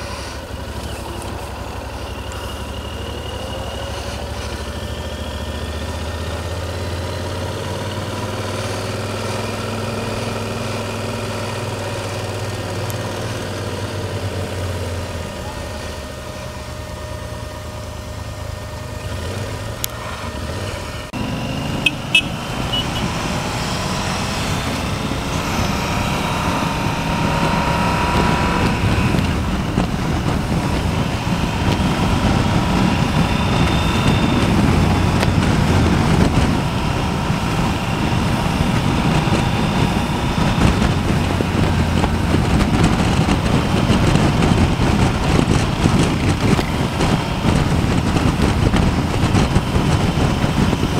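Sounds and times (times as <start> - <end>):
motorcycle engine: 0.0 - 50.9
wind and tyre noise: 0.0 - 50.9.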